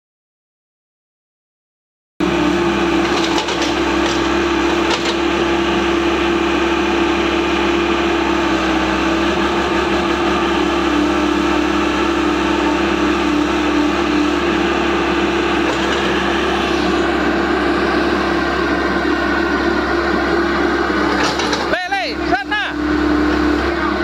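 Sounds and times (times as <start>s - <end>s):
excavator diesel engine: 2.2s - 24.0s.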